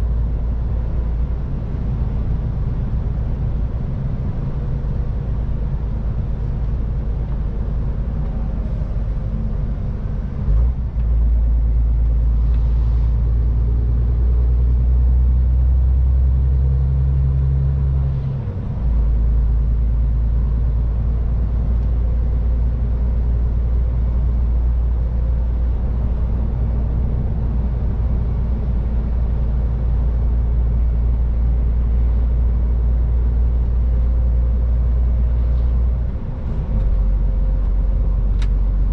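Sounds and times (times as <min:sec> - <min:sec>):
diesel truck engine droning: 0:00.0 - 0:38.9
road rumble: 0:00.0 - 0:38.9.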